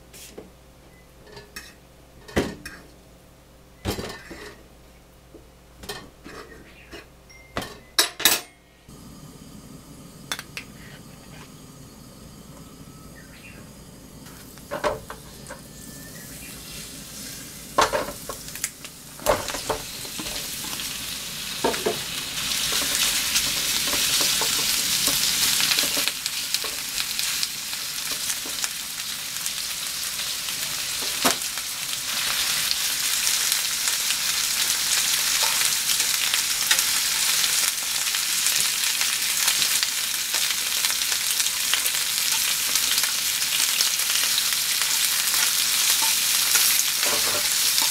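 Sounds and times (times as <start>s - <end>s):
meat sizzling in a frying pan: 9.0s - 47.9s.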